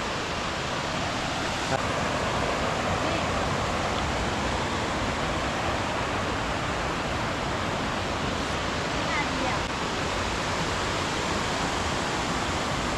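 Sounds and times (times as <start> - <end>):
waterfall rushing over rocks: 0.0 - 12.9.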